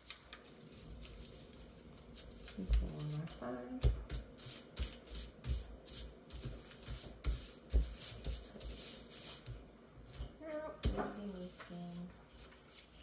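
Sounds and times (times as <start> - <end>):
paper rustling on a tabletop: 0.0 - 13.0.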